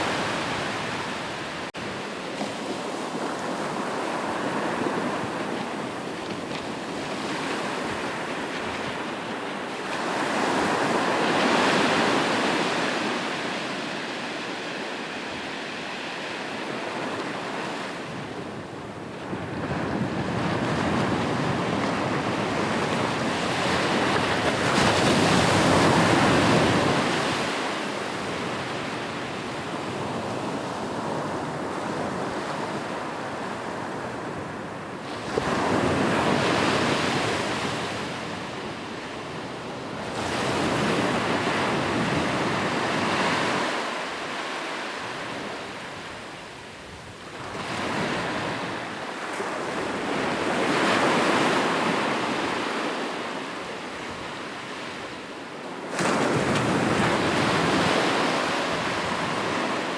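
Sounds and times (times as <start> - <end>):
sea waves breaking on shore: 0.0 - 18.2, 19.5 - 59.9.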